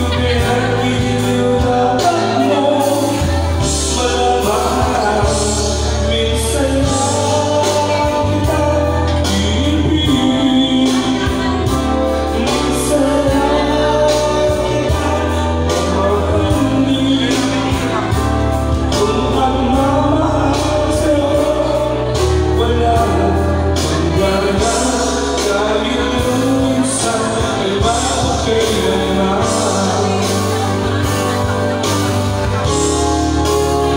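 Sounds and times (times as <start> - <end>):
backing music with pulsing bass: 0.0 - 33.9
person singing through loudspeaker: 0.0 - 33.9.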